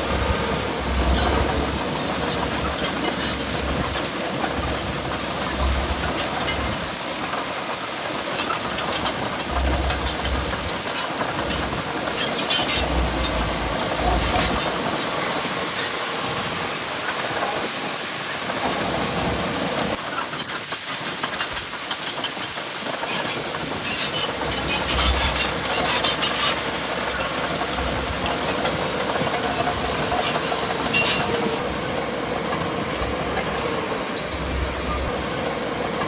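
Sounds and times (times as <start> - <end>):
heavy machinery rumbling: 0.0 - 36.0.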